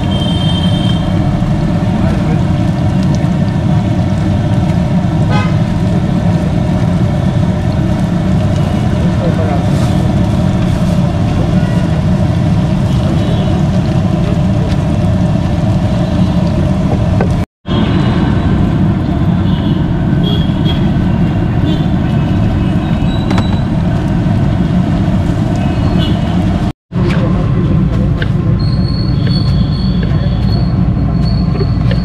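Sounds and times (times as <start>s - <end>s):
oil bubbling and hissing: 0.0s - 26.7s, 27.3s - 32.0s
low rumble: 0.9s - 28.5s.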